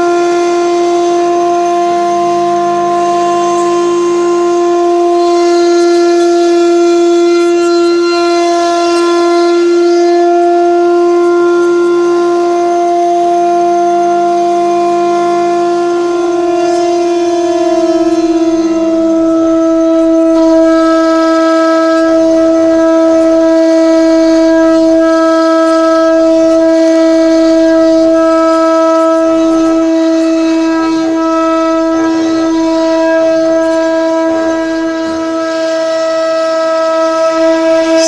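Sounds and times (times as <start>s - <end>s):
router spindle whining: 0.0s - 38.0s.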